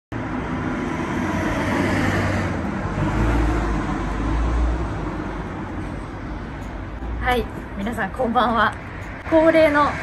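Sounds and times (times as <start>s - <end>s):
passing cars rumbling: 0.1s - 10.0s.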